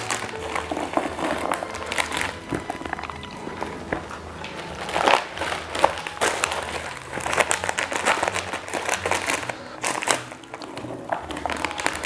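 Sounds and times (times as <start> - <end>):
plastic packets crinkling: 0.0 - 12.0.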